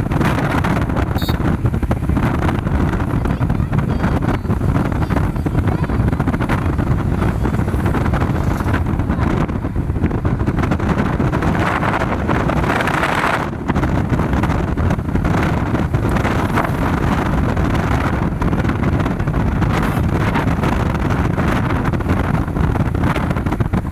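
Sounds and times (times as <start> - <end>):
steady low rumble: 0.0 - 23.9
wind buffeting microphone: 0.0 - 23.9.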